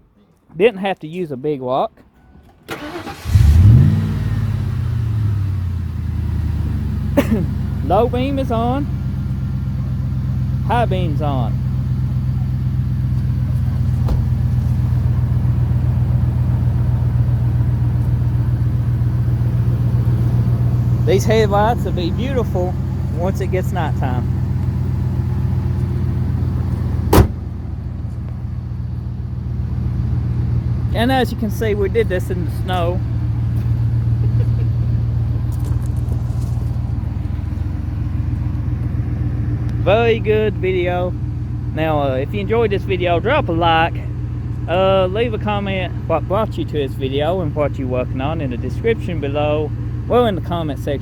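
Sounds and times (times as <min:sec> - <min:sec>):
car engine idling: 0:02.2 - 0:51.0.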